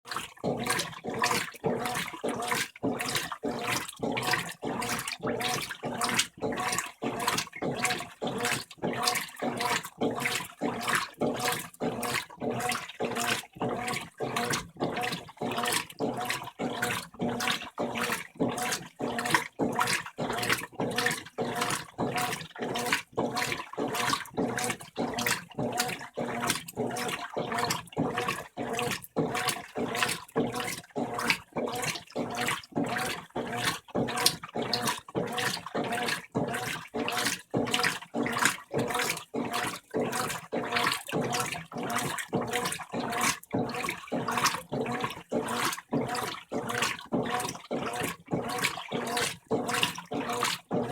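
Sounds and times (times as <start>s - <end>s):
washing machine churning water: 0.0s - 50.9s.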